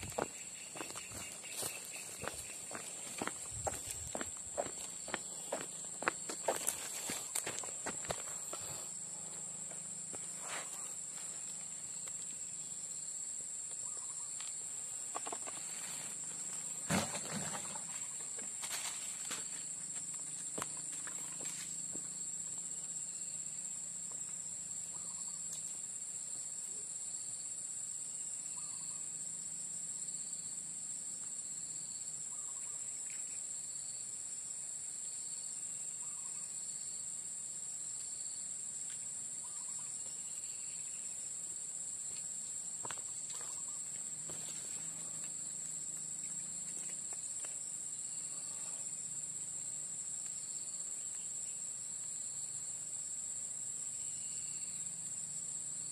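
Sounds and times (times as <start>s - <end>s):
insects droning high whine: 0.0s - 55.9s.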